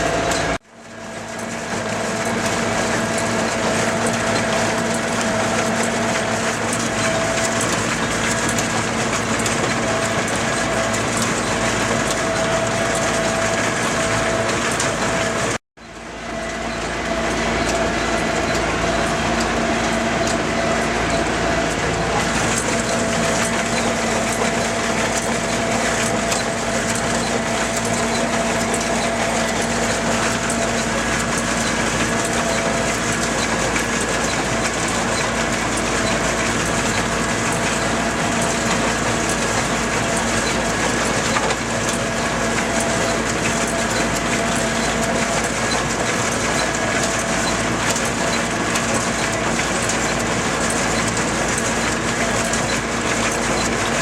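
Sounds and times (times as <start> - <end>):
hay baler clattering: 0.0 - 54.0
tractor diesel engine running: 0.0 - 54.0.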